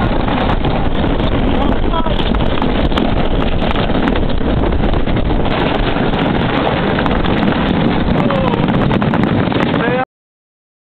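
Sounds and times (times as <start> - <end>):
sled rumbling down concrete chute: 0.0 - 10.0
wind buffeting microphone: 0.0 - 10.0.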